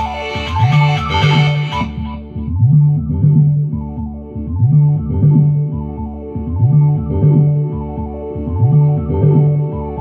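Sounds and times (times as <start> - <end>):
synthesizer sliding low notes: 0.0 - 10.0.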